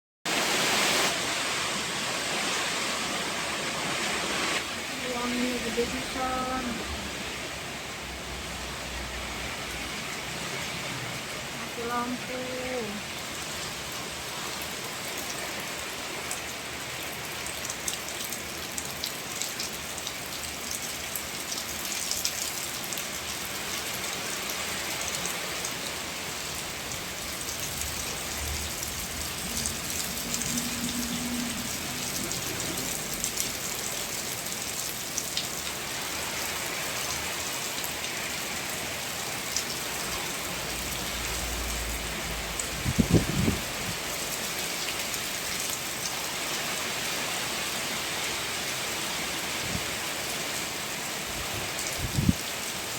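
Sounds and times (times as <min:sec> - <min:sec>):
heavy rain falling: 0:00.3 - 0:52.9.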